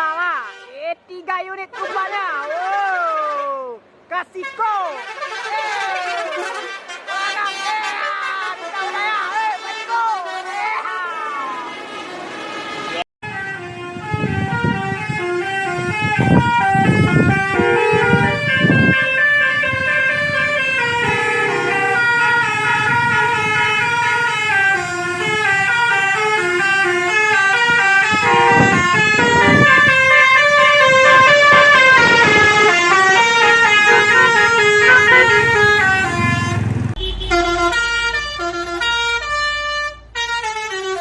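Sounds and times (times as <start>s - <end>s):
multi-tone bus air horns melody: 0.4s - 0.8s, 4.4s - 10.9s, 11.6s - 41.0s.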